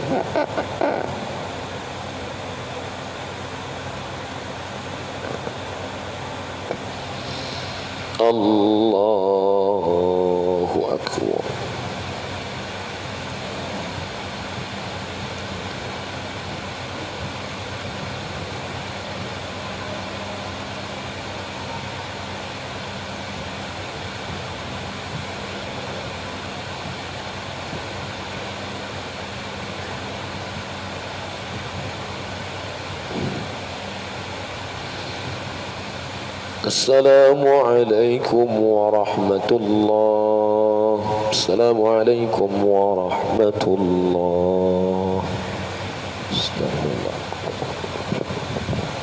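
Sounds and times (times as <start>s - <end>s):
background hum and hiss: 0.0s - 49.0s.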